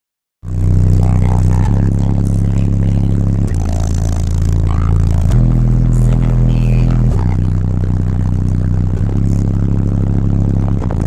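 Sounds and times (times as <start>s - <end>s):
bass-heavy music in a car: 0.4s - 11.0s.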